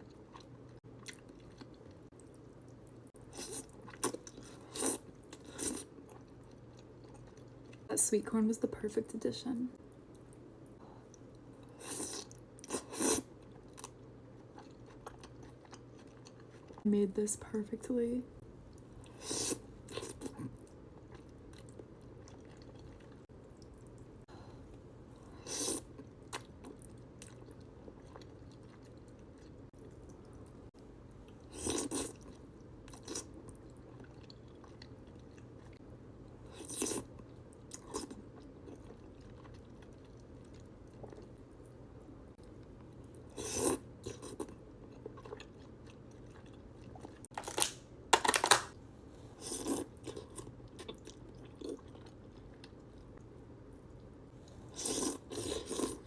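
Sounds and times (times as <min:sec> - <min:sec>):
chewing and crunching noodles: 0:00.0 - 0:07.9, 0:10.1 - 0:16.9, 0:18.7 - 0:41.8, 0:42.4 - 0:48.6, 0:49.4 - 0:56.0
faint steady hum: 0:00.0 - 0:56.0.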